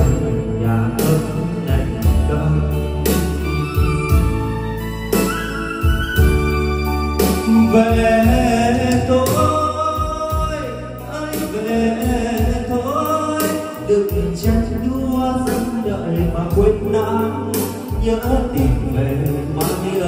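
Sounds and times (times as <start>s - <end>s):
karaoke backing track: 0.0s - 20.0s.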